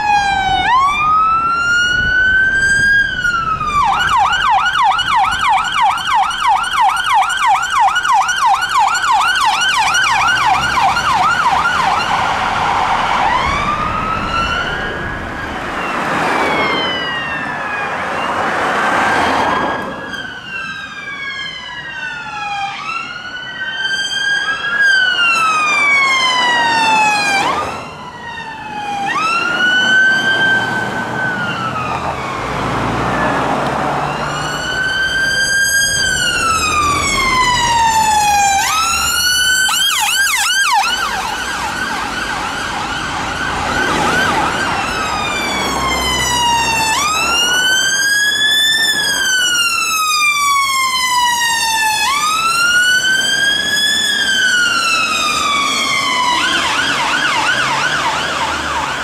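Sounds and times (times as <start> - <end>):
emergency vehicle sirens: 0.0 - 59.0.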